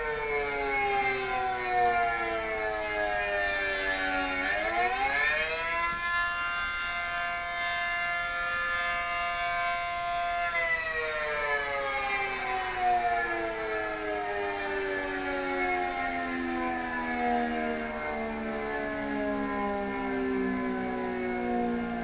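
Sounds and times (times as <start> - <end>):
civil defense siren wailing: 0.0 - 22.0.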